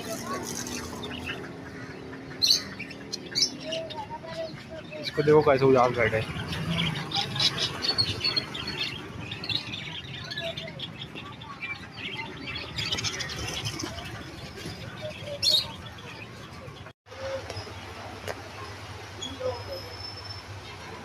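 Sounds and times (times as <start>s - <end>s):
caged birds chirping and squawking: 0.0s - 21.0s.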